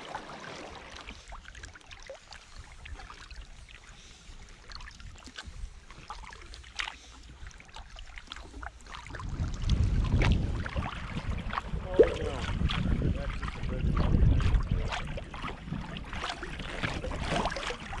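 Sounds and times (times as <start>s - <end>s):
paddle splashes and drips: 0.0s - 18.0s
water against kayak hull: 0.0s - 18.0s.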